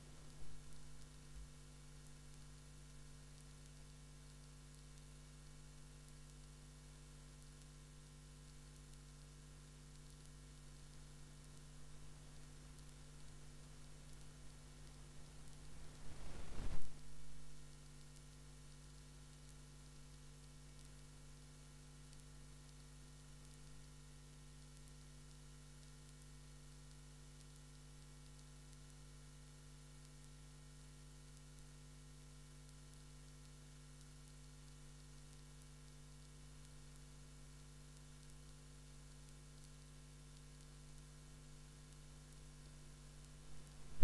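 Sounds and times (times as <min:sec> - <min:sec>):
faint hiss: 0:00.0 - 0:23.9, 0:32.4 - 0:44.0
crackling noise: 0:00.0 - 0:44.0
electrical mains hum: 0:00.0 - 0:44.0.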